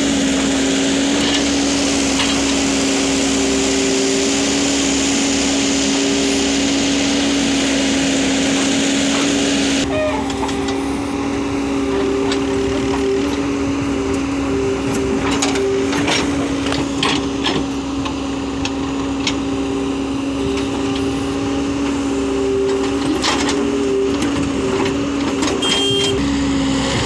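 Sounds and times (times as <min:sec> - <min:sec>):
diesel engine and hydraulics humming: 0:00.0 - 0:27.0.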